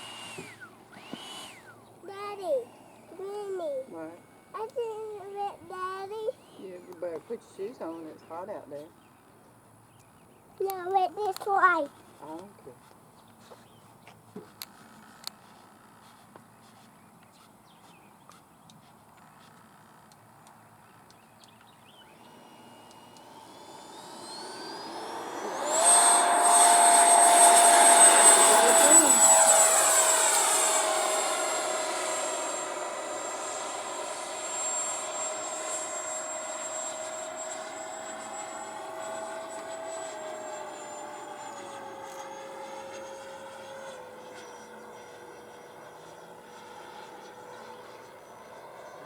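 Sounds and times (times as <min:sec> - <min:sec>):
electric ducted fan whine: 0:00.0 - 0:12.7, 0:19.6 - 0:49.0.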